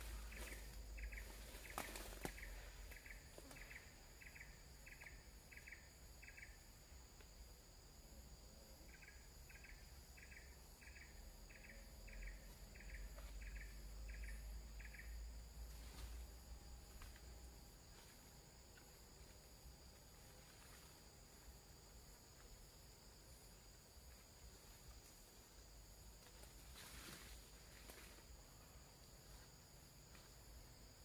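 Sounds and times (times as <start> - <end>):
high insect drone: 0.0 - 31.0
insect chirping: 0.0 - 31.0.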